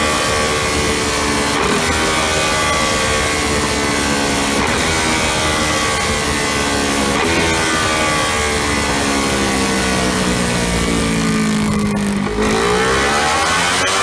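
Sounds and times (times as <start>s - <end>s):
motorcycle engine running on a dyno: 0.0s - 14.0s.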